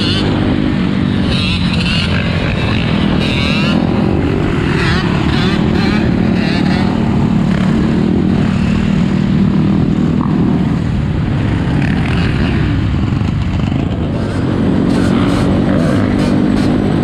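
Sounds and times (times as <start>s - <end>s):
atv engines droning: 0.0s - 17.0s.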